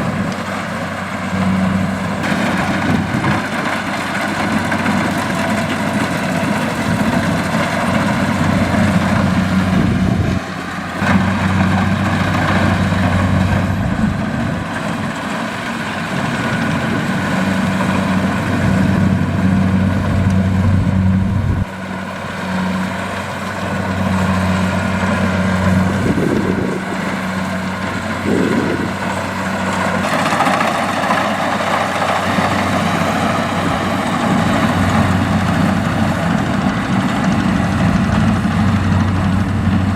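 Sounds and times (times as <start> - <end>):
diesel engine droning: 0.0 - 39.9
machinery rattling: 0.0 - 39.9.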